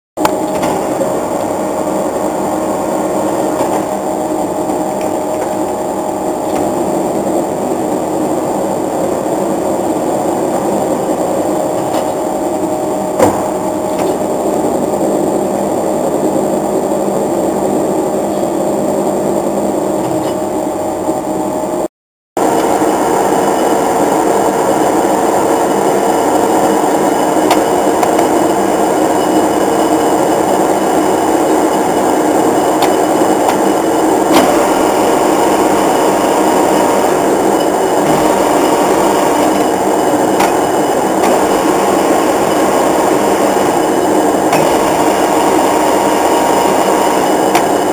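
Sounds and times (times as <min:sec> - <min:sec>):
lathe whirring: 0:00.2 - 0:21.8, 0:22.4 - 0:47.9.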